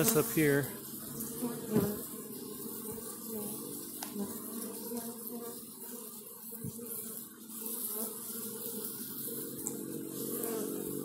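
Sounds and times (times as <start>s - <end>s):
bee swarm buzzing: 0.0s - 11.0s.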